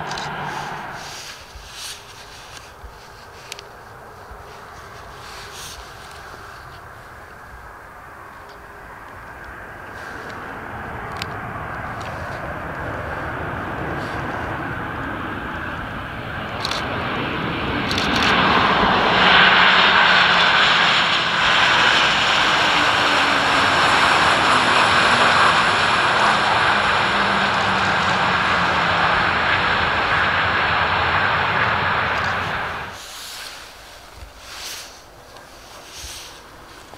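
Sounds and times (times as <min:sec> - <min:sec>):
jet engine roar with high whine: 0:00.0 - 0:36.9.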